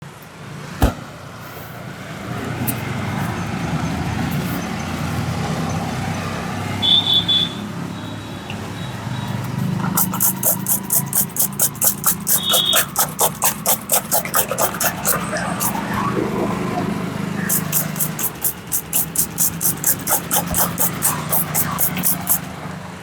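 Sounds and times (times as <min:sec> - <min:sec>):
road traffic rumble: 0:00.0 - 0:11.2, 0:15.0 - 0:23.0.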